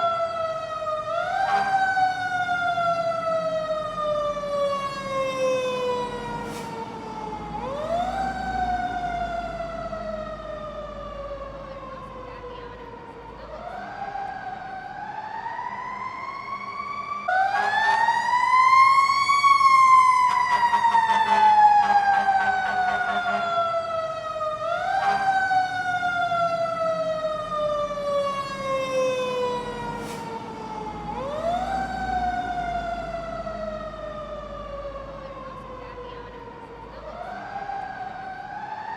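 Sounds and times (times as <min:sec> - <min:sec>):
emergency vehicle siren wailing: 0:00.0 - 0:38.9.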